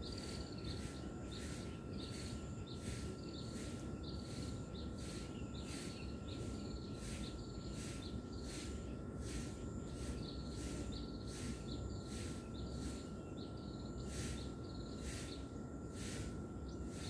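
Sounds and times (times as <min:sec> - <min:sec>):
faint steady whine: 0:00.0 - 0:17.0
insects chirping: 0:00.0 - 0:17.0.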